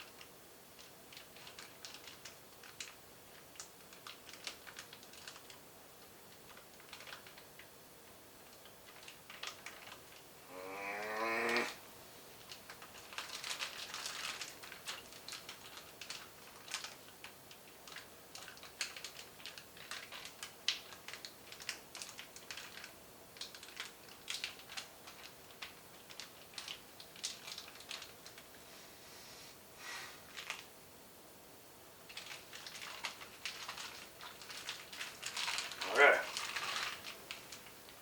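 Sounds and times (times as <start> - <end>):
plastic bag crinkling: 0.0 - 5.6, 6.3 - 7.7, 8.4 - 10.3, 12.4 - 28.5, 30.2 - 30.7, 32.1 - 38.0.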